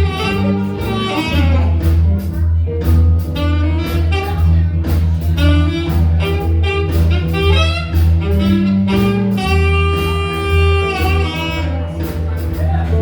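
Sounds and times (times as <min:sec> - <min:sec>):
blues band playing boogie: 0:00.0 - 0:13.0.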